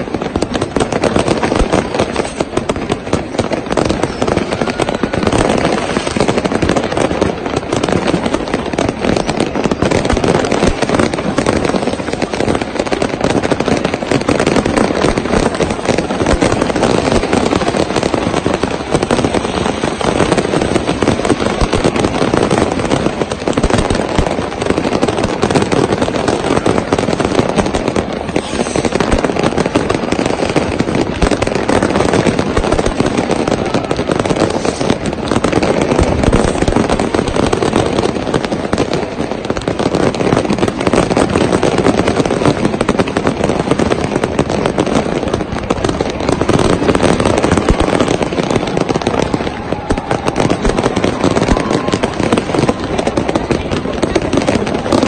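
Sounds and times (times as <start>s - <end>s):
fireworks crackling and banging: 0.0s - 55.0s.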